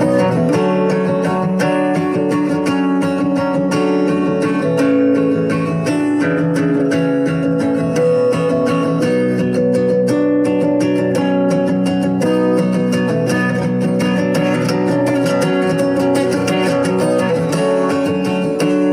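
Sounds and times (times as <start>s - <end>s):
acoustic guitar playing: 0.0s - 18.9s.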